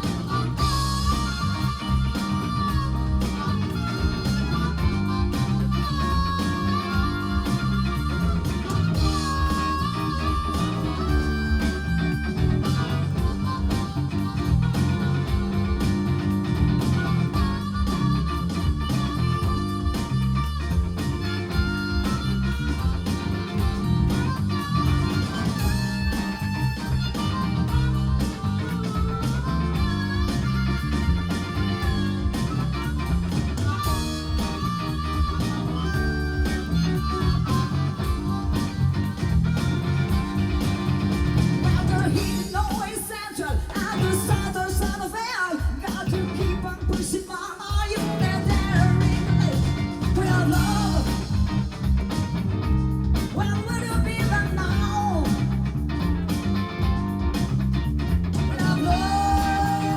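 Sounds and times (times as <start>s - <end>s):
sliding pitched guitar lines: 0.0s - 42.7s, 48.0s - 59.9s
band playing blues-rock: 0.0s - 59.9s.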